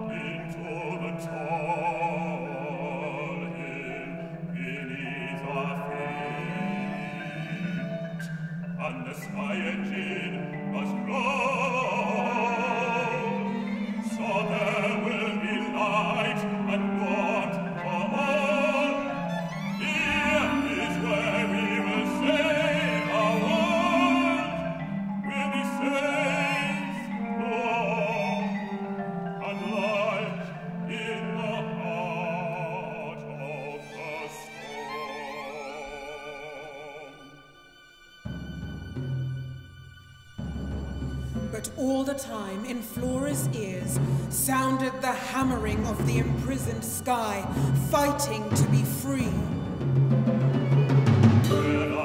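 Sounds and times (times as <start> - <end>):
operatic singing with vibrato: 0.0 - 39.0, 40.4 - 52.0
chamber orchestra playing: 0.0 - 52.0.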